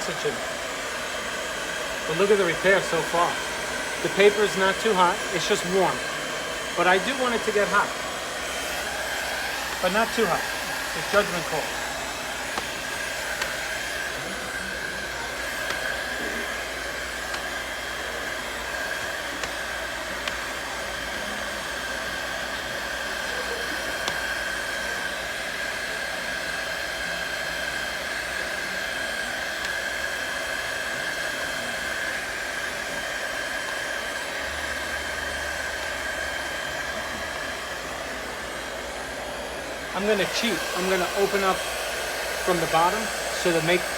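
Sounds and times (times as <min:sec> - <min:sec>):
hot-air blower whining: 0:00.0 - 0:43.9.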